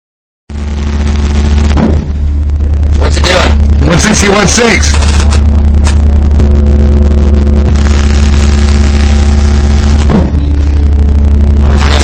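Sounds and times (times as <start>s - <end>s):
loud low bass tone: 0.5s - 12.0s.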